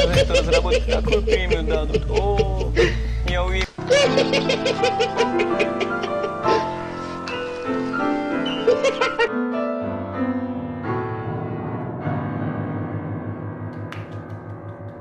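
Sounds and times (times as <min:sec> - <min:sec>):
grand piano notes: 0:02.8 - 0:15.0.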